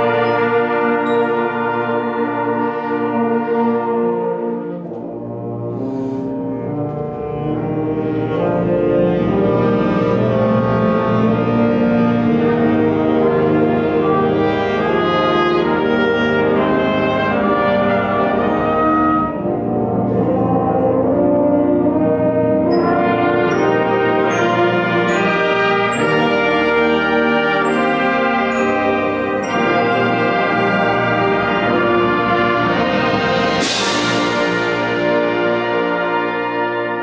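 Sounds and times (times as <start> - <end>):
wind ensemble playing chords: 0.0 - 37.0.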